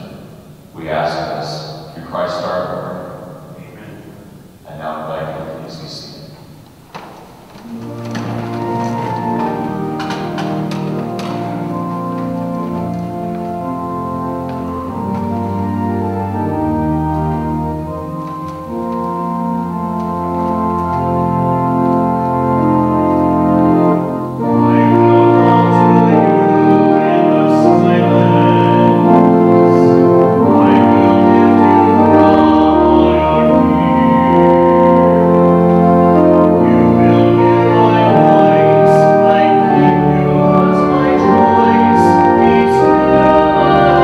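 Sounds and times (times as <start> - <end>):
church organ chords: 0.0 - 44.0.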